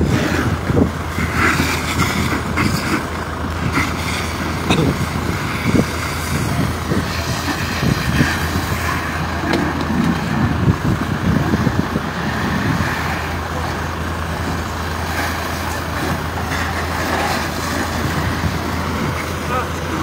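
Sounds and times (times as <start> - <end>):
fire truck engine droning: 0.0 - 20.0
outdoor rumble: 0.0 - 20.0.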